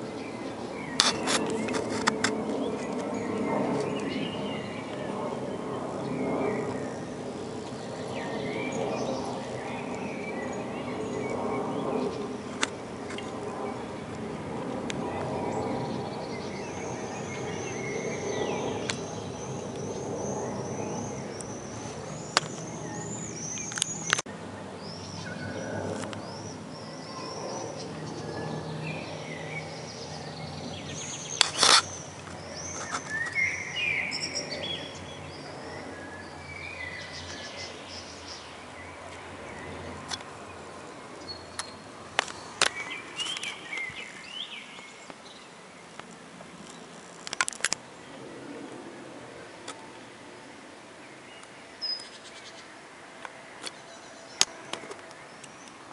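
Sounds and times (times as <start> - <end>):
small birds chirping: 0.0 - 48.8, 51.0 - 52.9
distant jet airliner rumble: 0.0 - 55.9.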